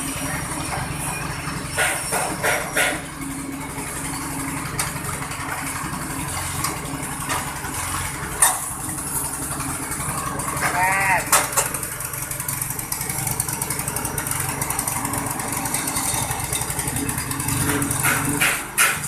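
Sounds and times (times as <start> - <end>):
peeling machine humming: 0.0 - 19.0.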